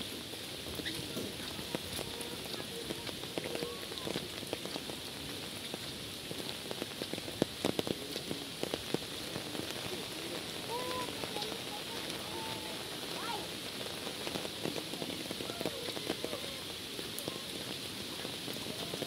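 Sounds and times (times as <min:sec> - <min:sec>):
heavy rain on foliage: 0:00.0 - 0:19.0.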